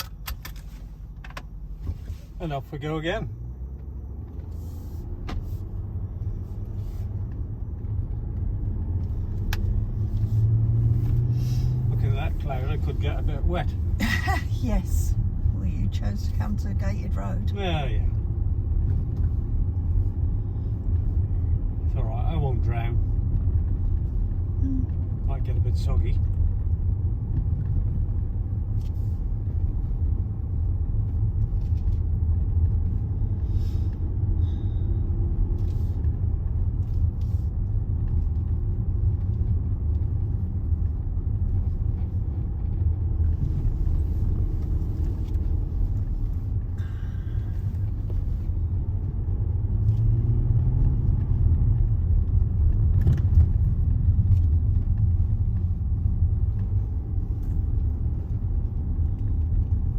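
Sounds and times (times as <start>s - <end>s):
engine and road noise in car: 0.0s - 59.9s.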